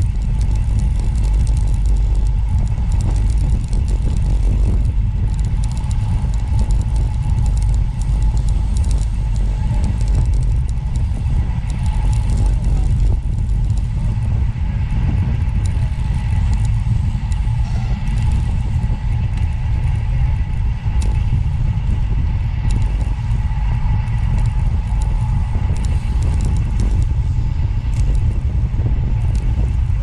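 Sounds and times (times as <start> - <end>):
vehicle road noise rumble: 0.0 - 30.0.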